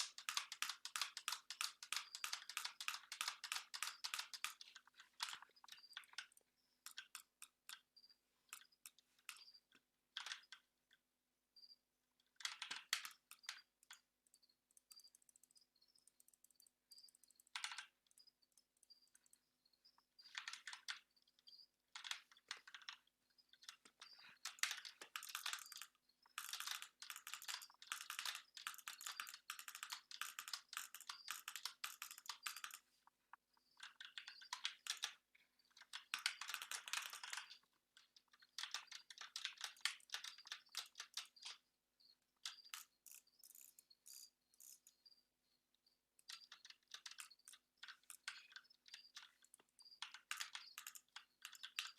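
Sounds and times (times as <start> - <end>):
keyboard typing clicks: 0.0 - 10.7, 11.6 - 45.0, 46.2 - 51.9.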